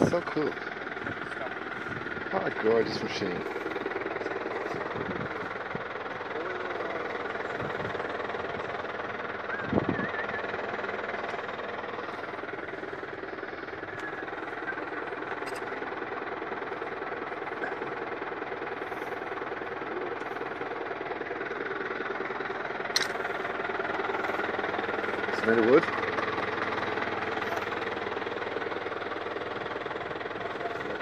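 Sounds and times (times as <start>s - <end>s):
tractor and binder clattering: 0.0s - 31.0s.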